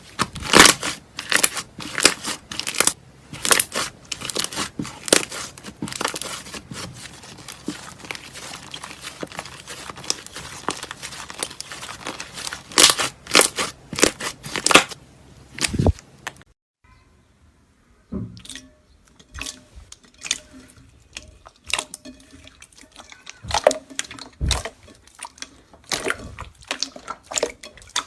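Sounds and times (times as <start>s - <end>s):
slime crackling and popping: 0.0s - 15.0s, 19.9s - 28.0s.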